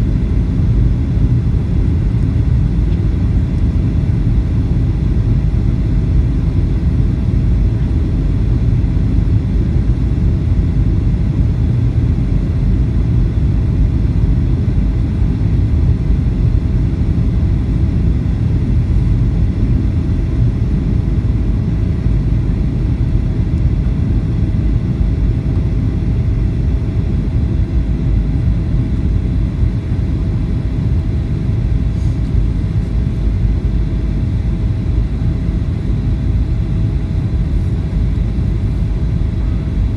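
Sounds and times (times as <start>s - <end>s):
airliner cabin engine rumble: 0.0s - 39.9s
faint steady hum: 0.0s - 39.9s.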